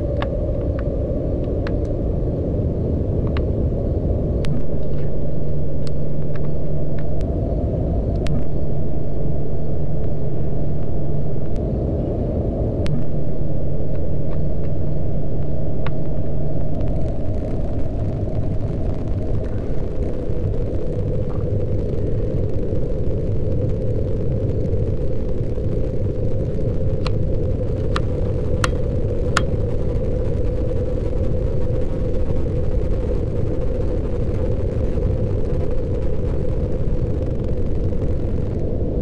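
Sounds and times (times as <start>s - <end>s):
low rumbling noise: 0.0s - 39.0s.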